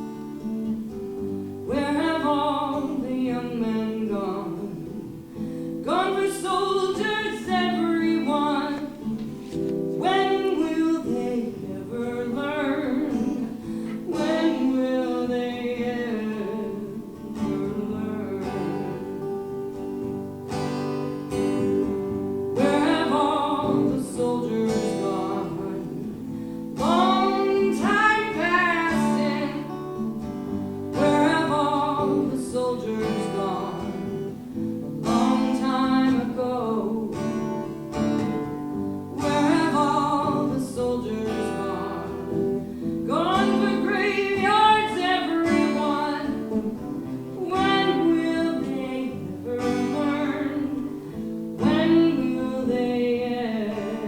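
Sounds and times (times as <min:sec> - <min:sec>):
acoustic guitar strumming: 0:00.0 - 0:54.0
person singing: 0:01.6 - 0:19.6, 0:22.5 - 0:54.0.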